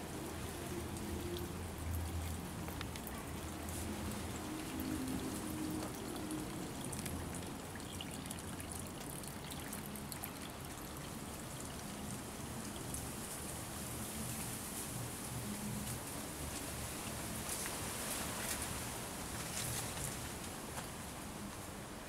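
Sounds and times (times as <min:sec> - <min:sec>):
pond water trickling: 0:00.0 - 0:22.0.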